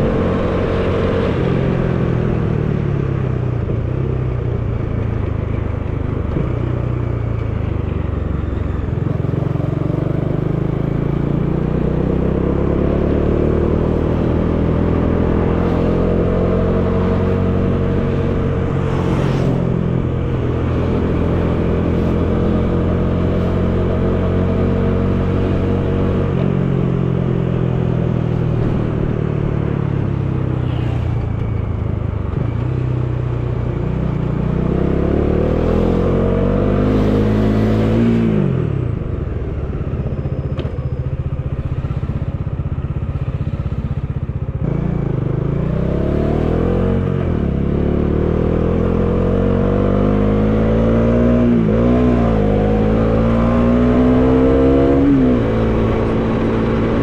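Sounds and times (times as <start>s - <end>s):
motorcycle engine revving: 8.2s - 57.0s.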